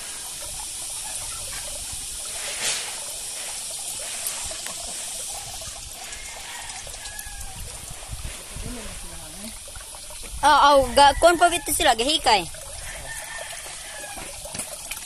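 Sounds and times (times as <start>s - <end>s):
water pouring into a pond: 0.0s - 15.0s.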